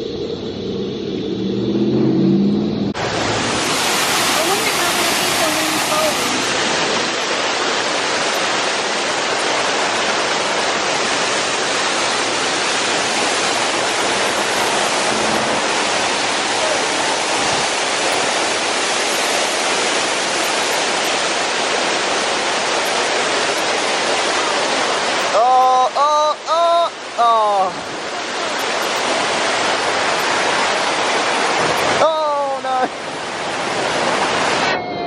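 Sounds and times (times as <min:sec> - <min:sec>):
rushing waterfall: 0:01.5 - 0:35.0.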